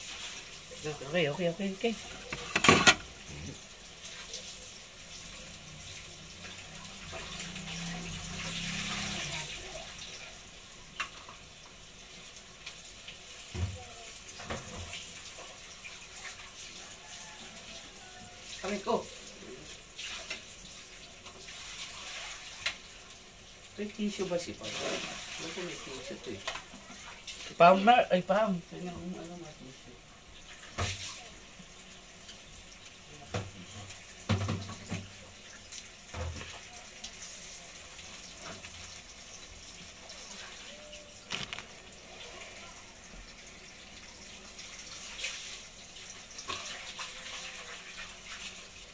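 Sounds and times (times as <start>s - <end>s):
water splashes: 0.0s - 11.5s, 12.1s - 32.0s, 33.0s - 48.9s
fish frying in hot oil: 0.0s - 48.9s
water running from a tap: 0.0s - 48.9s.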